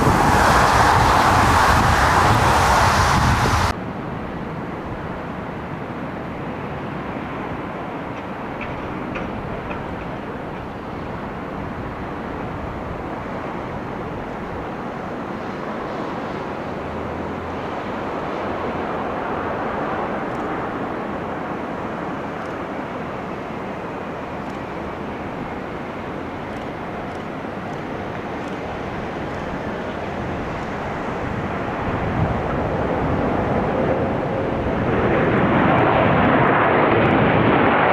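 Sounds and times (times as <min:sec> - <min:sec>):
airplane engine drone: 0:00.0 - 0:37.9.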